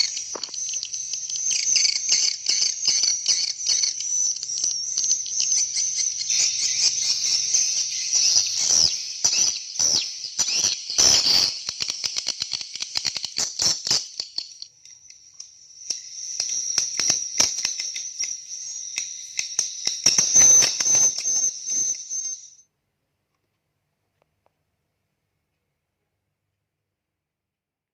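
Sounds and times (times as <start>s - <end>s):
electronic bird chirping from speaker: 0.0s - 22.7s.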